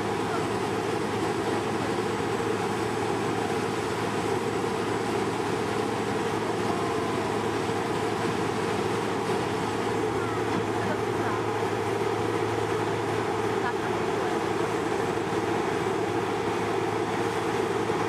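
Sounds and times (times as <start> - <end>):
combine harvester engine humming: 0.0 - 18.0.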